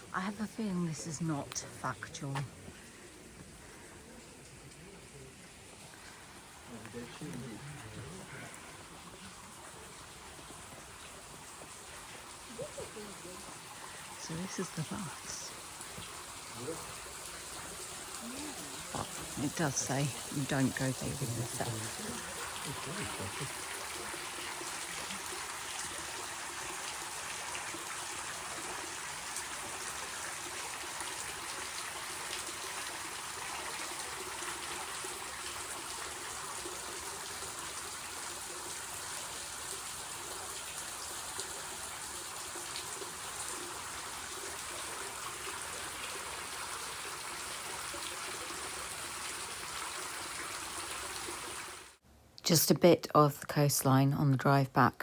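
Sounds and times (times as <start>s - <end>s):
spring water trickling into pool: 0.0s - 52.0s.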